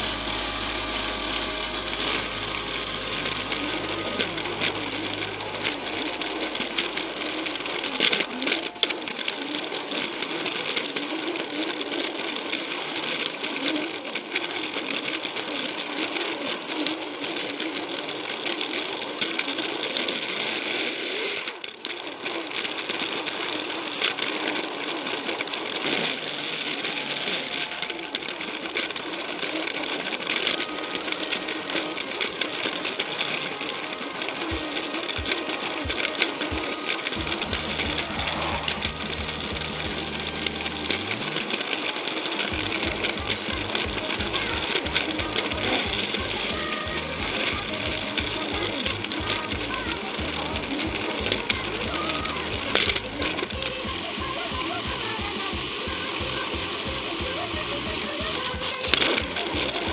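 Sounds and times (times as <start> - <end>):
toy train motor whirring: 0.0 - 59.9
wheels clattering on plastic track: 3.6 - 59.9.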